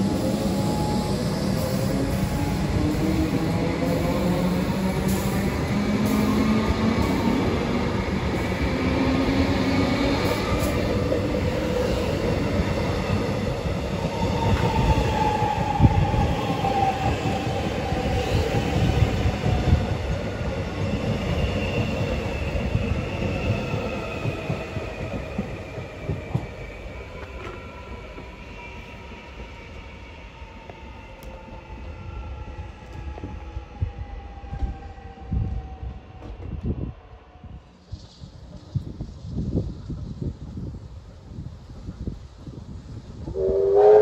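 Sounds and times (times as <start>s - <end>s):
train wheel rumble on rails: 0.0s - 44.0s.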